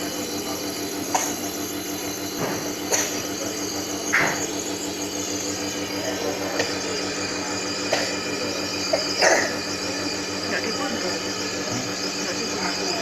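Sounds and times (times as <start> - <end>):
nebulizer compressor humming: 0.0 - 13.0.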